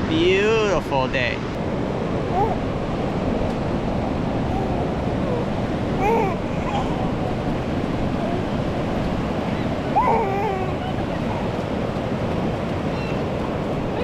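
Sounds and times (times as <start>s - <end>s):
ocean surf on beach: 0.0s - 14.0s
wind buffeting microphone: 0.0s - 14.0s.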